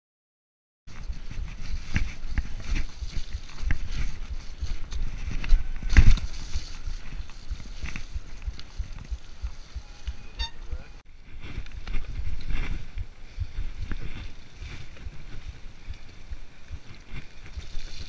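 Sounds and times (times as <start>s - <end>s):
mountain bike rattling: 0.9s - 18.0s
tyre noise on trail: 0.9s - 18.0s.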